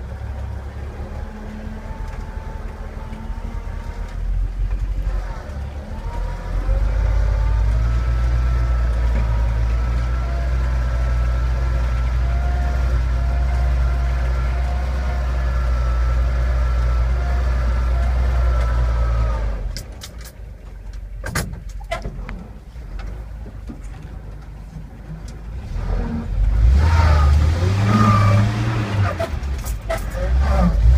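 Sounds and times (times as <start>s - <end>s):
truck engine rumbling: 0.0s - 30.9s.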